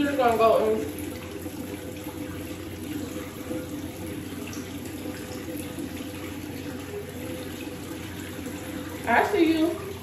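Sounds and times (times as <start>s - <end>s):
faucet water running into sink: 0.0s - 10.0s.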